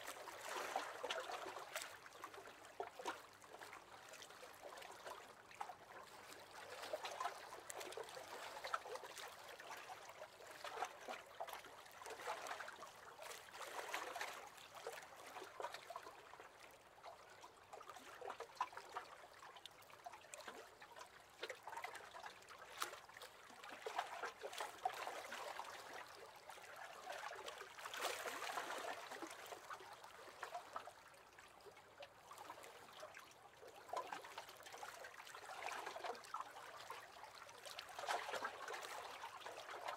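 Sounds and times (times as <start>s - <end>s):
waves lapping against boat hull: 0.0s - 39.9s.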